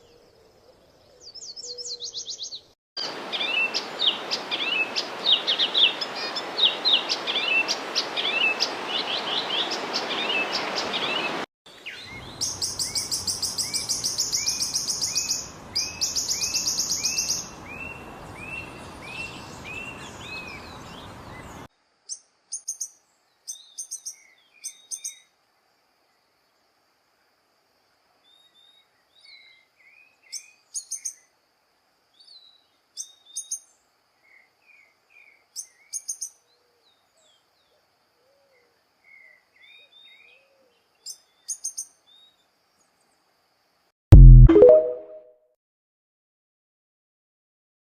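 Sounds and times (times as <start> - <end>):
songbirds singing: 0.0 - 25.3, 28.2 - 31.4, 32.1 - 43.2.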